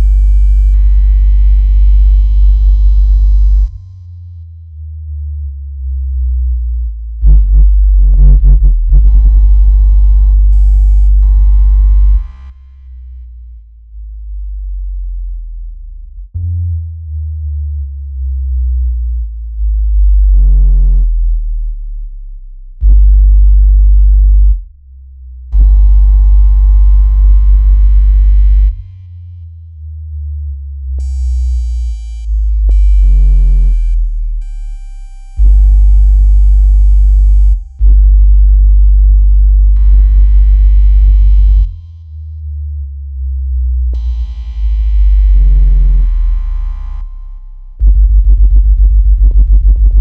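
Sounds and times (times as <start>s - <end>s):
deep synthesized bass tones: 0.0s - 50.0s.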